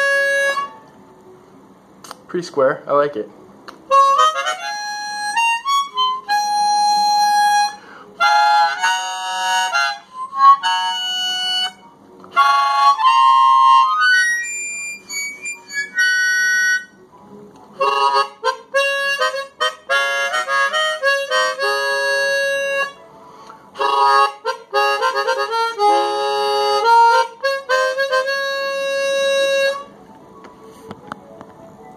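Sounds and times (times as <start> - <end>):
chromatic harmonica playing: 0.0 - 0.9, 3.9 - 17.0, 17.8 - 30.0.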